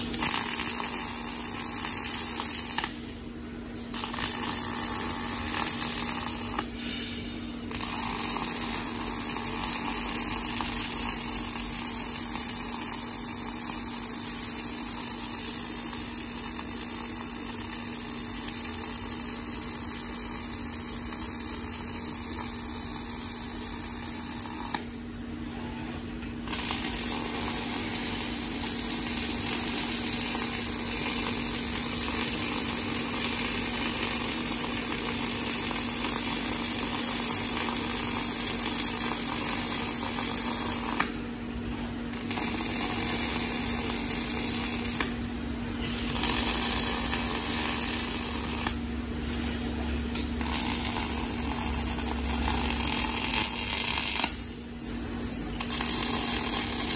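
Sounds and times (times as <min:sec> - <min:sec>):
arc welding torch hissing: 0:00.0 - 0:03.1, 0:03.7 - 0:25.0, 0:26.5 - 0:41.3, 0:42.1 - 0:49.1, 0:50.2 - 0:54.4, 0:55.5 - 0:56.9.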